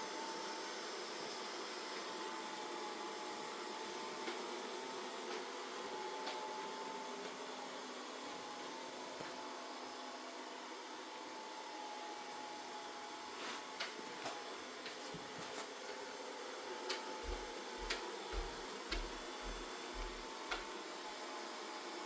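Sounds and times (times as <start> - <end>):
robot vacuum running with whine: 0.0 - 22.0.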